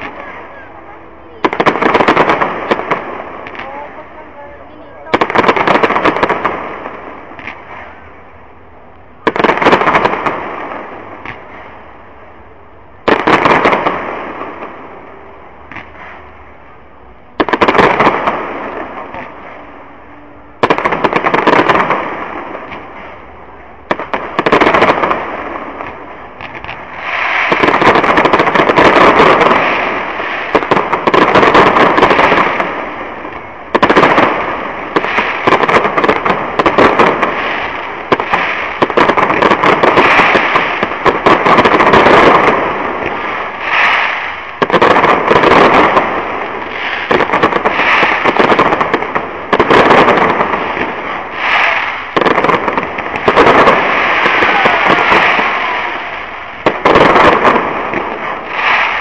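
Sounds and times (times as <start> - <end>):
firework crackling: 0.0 - 59.0.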